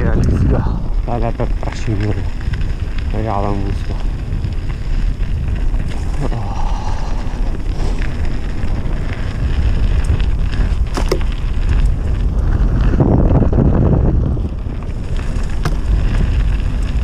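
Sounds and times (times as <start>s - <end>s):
bike rattling: 0.0s - 17.0s
tyres running over dirt: 0.0s - 17.0s
wind rumbling on microphone: 0.0s - 17.0s.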